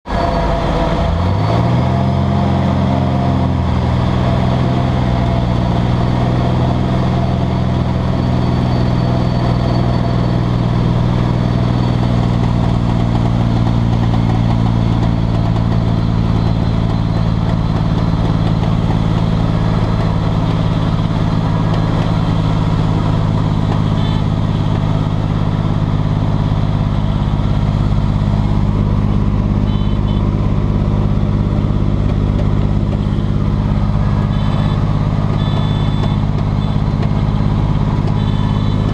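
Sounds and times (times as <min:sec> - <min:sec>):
propeller aircraft engine in cabin: 0:00.0 - 0:38.9.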